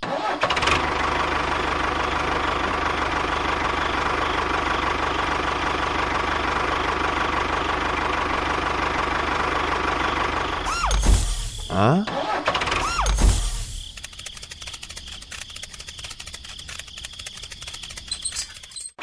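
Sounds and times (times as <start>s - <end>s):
small engine idling: 0.4s - 18.6s.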